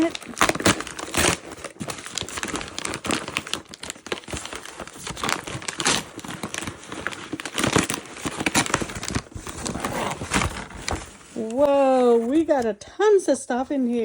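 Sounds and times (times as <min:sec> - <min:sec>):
wrapping paper crinkling and tearing: 0:00.0 - 0:12.7.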